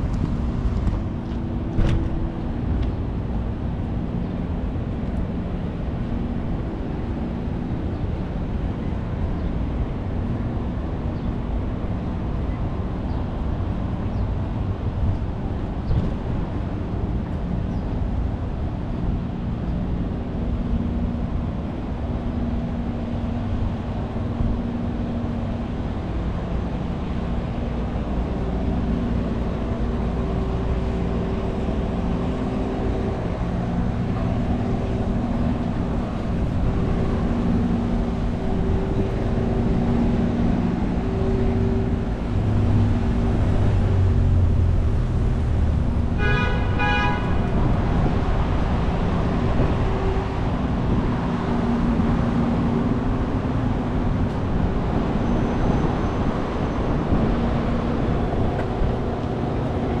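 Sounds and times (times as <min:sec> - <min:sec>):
passing traffic: 0:00.0 - 1:00.0.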